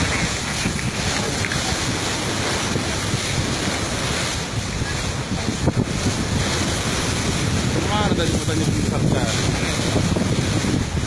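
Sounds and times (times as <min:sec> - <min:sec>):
choppy lake water washing: 0:00.0 - 0:11.0
wind buffeting microphone: 0:00.0 - 0:11.0.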